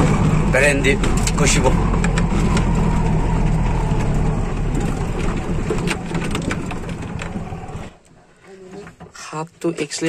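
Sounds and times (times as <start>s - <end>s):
vehicle engine humming: 0.0s - 9.0s.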